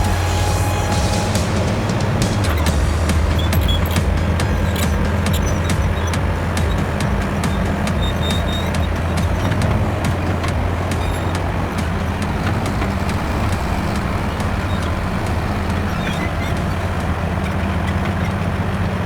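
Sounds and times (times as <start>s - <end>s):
diesel machinery engine drone: 0.0s - 19.0s.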